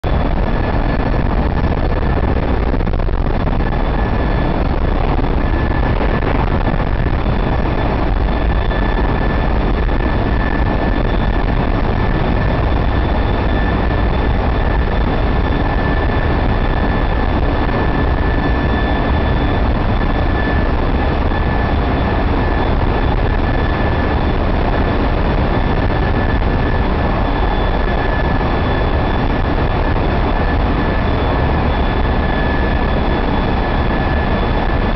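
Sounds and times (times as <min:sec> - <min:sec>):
high whine: 0:00.0 - 0:34.9.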